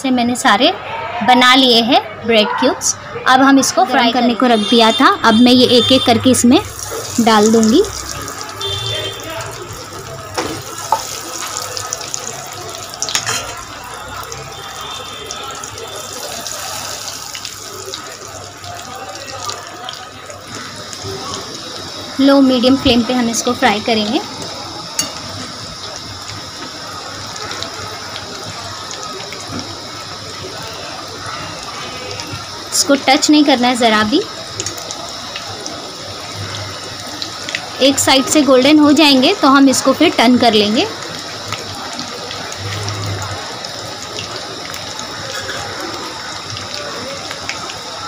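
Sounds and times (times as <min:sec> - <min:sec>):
bread sizzling in hot oil: 0:03.7 - 0:48.0.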